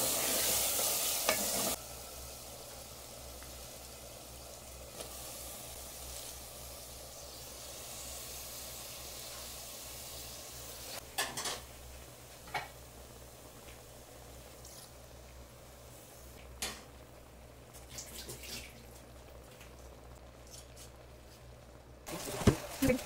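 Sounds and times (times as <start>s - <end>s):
meat frying in oil: 0.0s - 23.0s.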